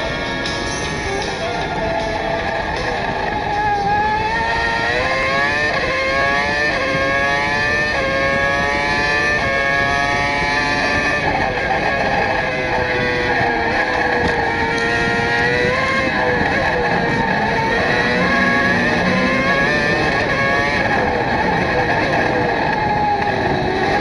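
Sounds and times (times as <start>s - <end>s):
race car engine upshifting: 0.0s - 24.0s.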